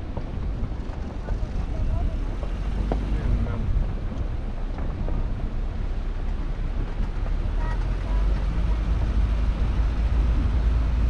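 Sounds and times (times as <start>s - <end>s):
car driving rumble: 0.0s - 11.0s
wind: 0.0s - 11.0s.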